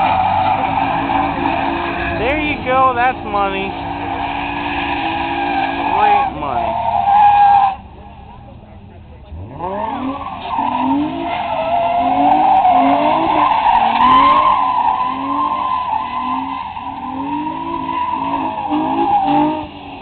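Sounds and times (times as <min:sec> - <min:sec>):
tyres squealing: 0:00.0 - 0:08.0, 0:09.3 - 0:20.0
car engine revving: 0:00.0 - 0:20.0.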